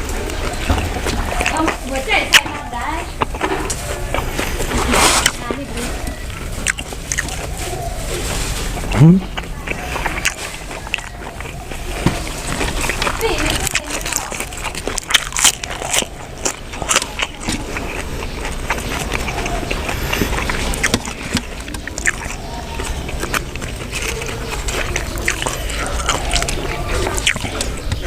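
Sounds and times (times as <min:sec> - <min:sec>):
wet mouth clicks: 0:00.0 - 0:05.5, 0:06.3 - 0:07.6, 0:08.7 - 0:28.0
chewing crisp food: 0:00.0 - 0:28.0.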